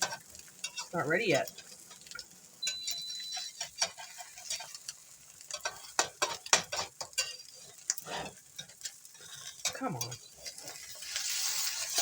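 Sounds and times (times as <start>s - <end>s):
omelette sizzling in a pan: 0.0s - 12.0s
spatula scraping and tapping pan: 0.0s - 12.0s.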